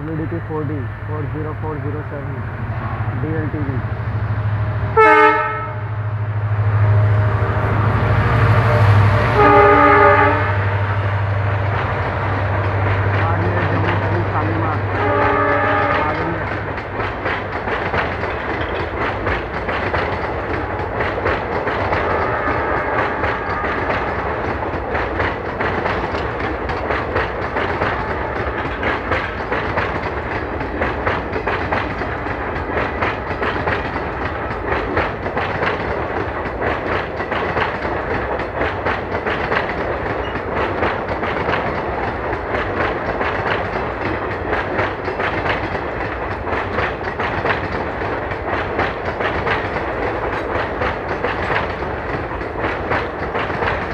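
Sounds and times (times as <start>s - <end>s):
train wheels clicking over rail joints: 7.3s - 53.9s.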